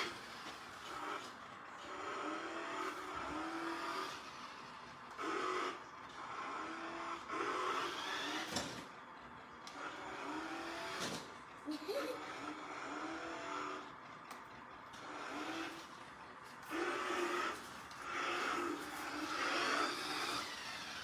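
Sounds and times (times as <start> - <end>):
toy truck electric motor whining: 0.0 - 21.0.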